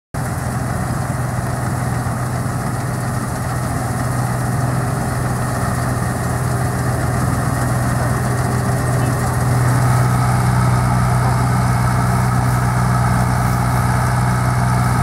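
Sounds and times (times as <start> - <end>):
combine harvester engine drone: 0.2 - 15.0
threshing machinery noise: 0.2 - 15.0.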